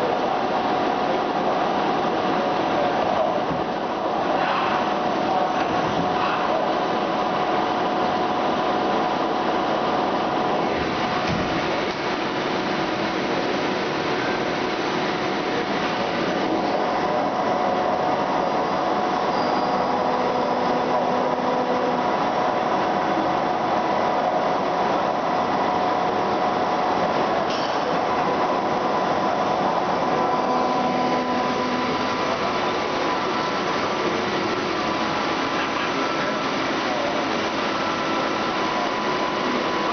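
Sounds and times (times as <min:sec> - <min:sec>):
lathe machine hum and whine: 0:00.0 - 0:39.9.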